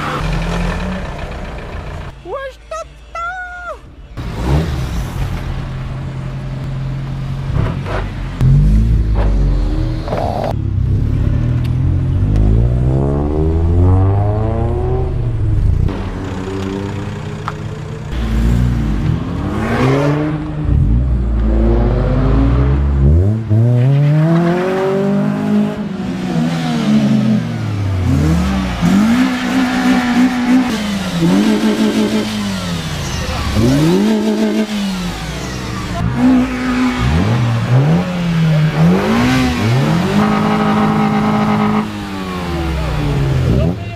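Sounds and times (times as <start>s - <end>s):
cars driving past revving: 7.2s - 43.8s.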